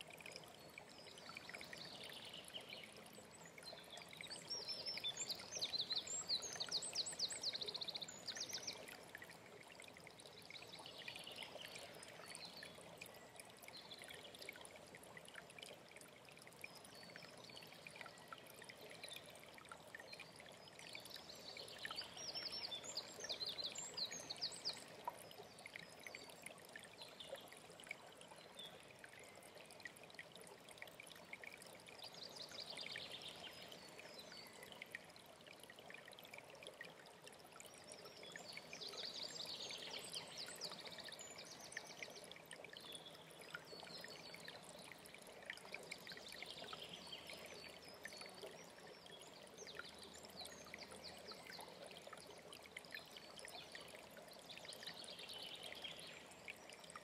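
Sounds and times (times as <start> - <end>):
mountain stream running: 0.0 - 57.0.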